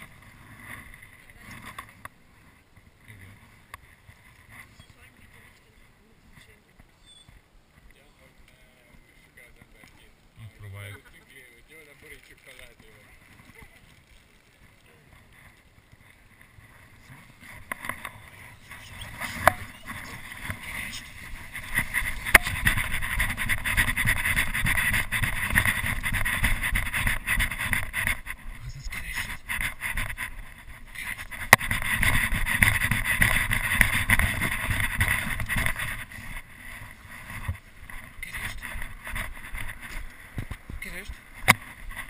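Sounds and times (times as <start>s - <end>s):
camera rustling and rumbling: 0.0s - 8.0s, 8.8s - 42.0s.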